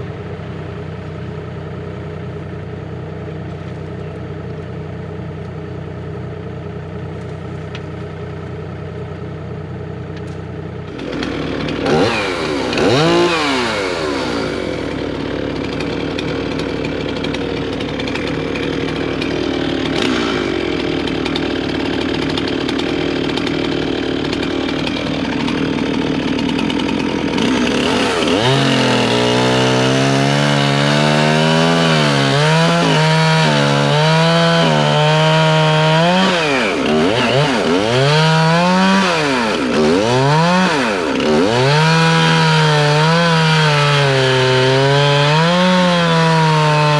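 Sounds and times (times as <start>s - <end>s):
chainsaw cutting logs: 0.0s - 46.9s.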